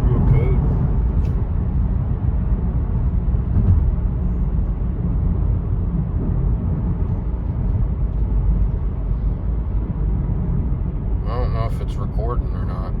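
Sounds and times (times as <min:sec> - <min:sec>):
engine and road rumble in car cabin: 0:00.0 - 0:13.0.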